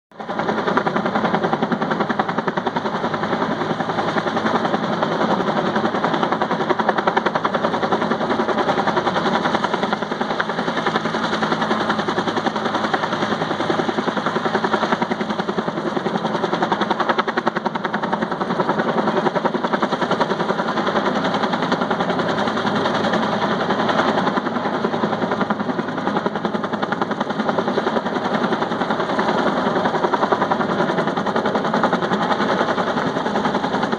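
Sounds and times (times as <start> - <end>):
helicopter rotor blades chopping: 0.2 - 33.9.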